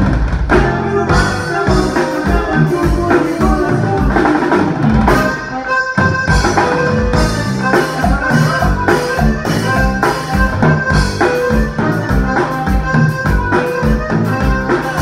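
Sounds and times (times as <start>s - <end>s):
drum kit beat: 0.0s - 15.0s
electric bass: 0.0s - 15.0s
accordion melody: 0.2s - 15.0s.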